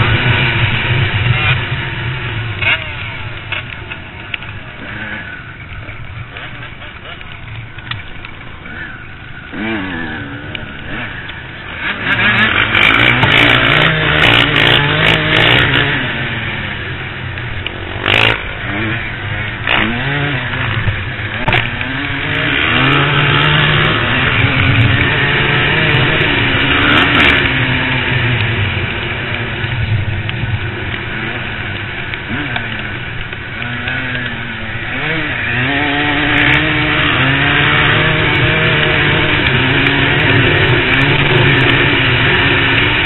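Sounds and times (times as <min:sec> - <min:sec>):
motorcycle engines revving: 0:00.0 - 0:43.0.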